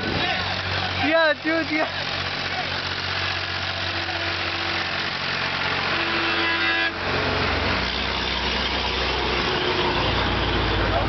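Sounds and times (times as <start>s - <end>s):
bus passing: 0.0s - 11.0s
tractor passing: 0.0s - 11.0s.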